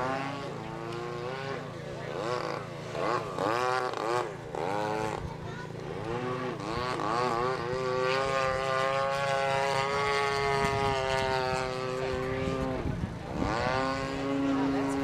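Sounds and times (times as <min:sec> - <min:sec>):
model airplane engine and propeller: 0:00.0 - 0:15.0.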